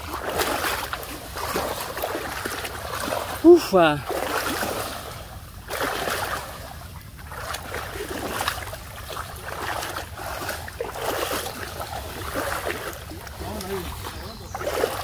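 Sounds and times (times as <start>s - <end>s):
people wading through water: 0.0s - 15.0s.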